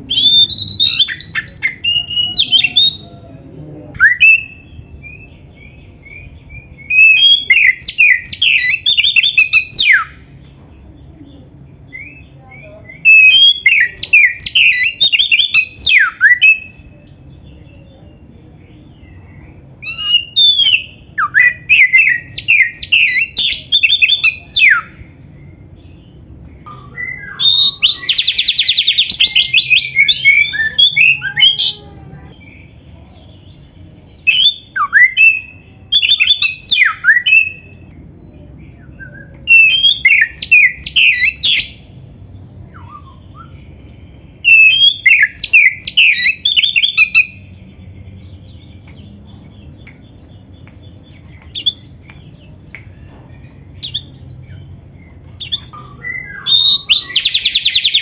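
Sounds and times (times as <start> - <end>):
bird singing whistles and trills: 0.0 - 3.2, 4.0 - 10.3, 11.8 - 31.8, 32.4 - 58.0
faint low hum: 0.0 - 58.0.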